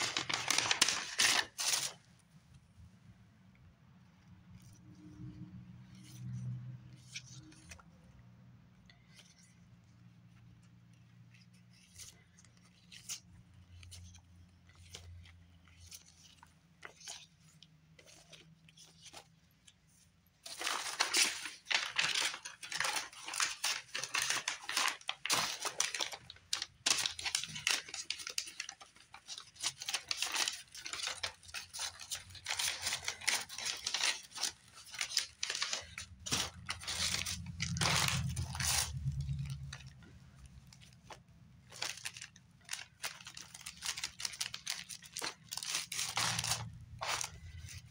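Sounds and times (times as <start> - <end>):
packaging crinkling and rustling: 0.0 - 2.2, 10.9 - 47.9.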